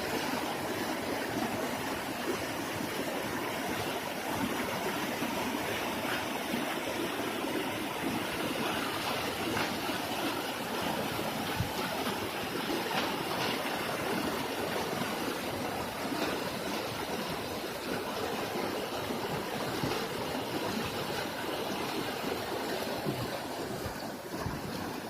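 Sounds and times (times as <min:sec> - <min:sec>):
water rushing over waterfall: 0:00.0 - 0:25.0.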